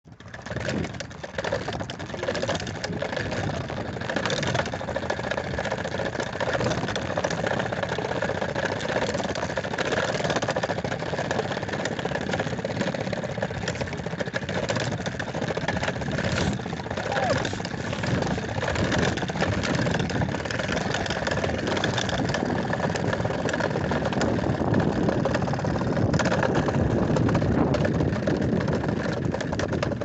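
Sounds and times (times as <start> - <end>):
faint rattles and crackles: 0.1 - 30.0.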